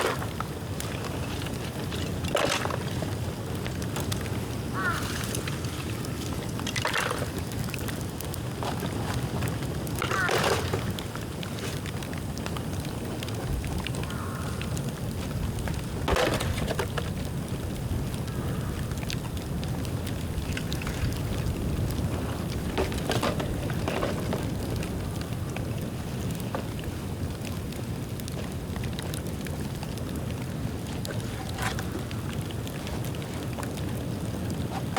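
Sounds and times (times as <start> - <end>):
bamboo crackling and popping: 0.0 - 34.9
bonfire flame rushing: 0.0 - 34.9.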